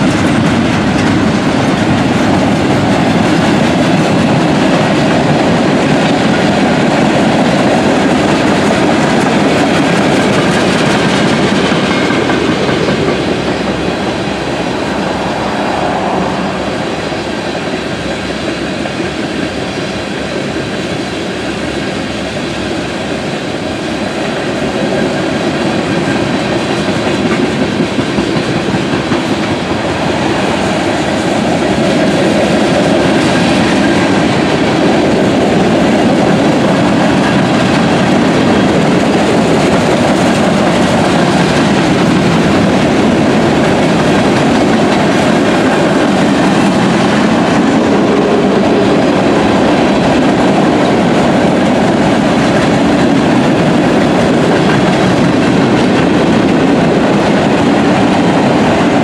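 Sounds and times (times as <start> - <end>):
steel wheels rolling on rails: 0.0 - 59.0.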